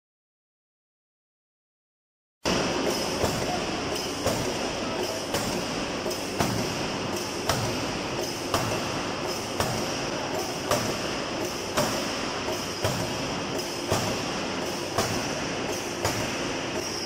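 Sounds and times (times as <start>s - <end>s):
forging hammer striking steel: 2.5s - 17.0s
machine noise: 2.5s - 17.0s.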